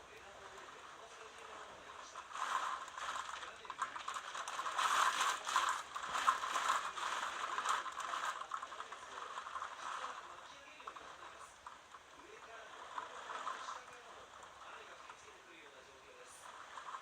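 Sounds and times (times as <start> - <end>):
wind-driven rain rattling: 0.0 - 17.0.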